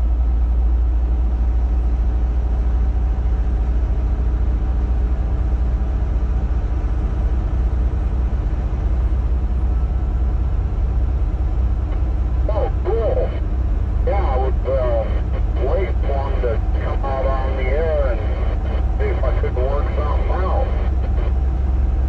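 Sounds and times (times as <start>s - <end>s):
road noise: 0.0s - 22.0s
truck diesel engine rumble: 0.0s - 22.0s.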